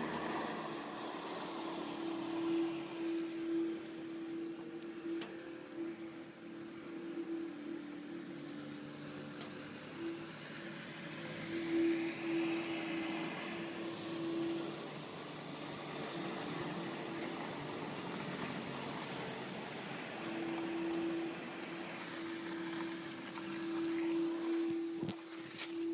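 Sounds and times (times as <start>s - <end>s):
low droning hum from sky: 0.0s - 25.9s.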